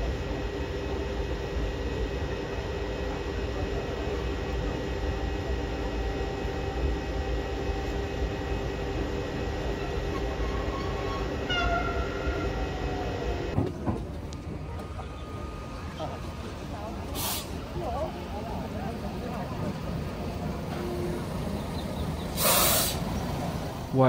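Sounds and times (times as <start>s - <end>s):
electric railcar rolling: 0.0s - 24.0s.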